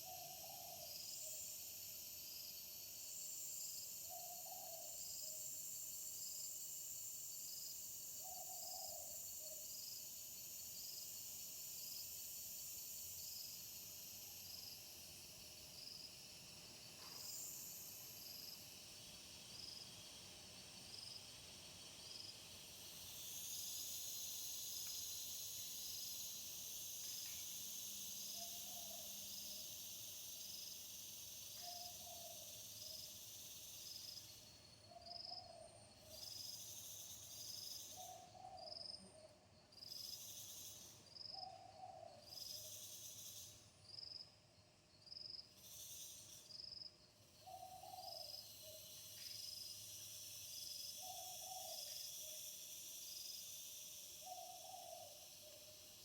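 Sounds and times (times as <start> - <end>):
insect chirp: 0.0 - 56.0
insects buzzing: 0.0 - 56.0.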